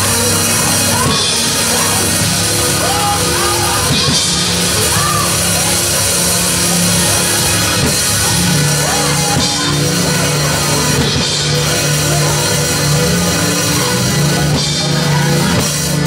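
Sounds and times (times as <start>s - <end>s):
drum kit with crashing cymbals: 0.0s - 16.0s
held keyboard notes: 0.0s - 16.0s.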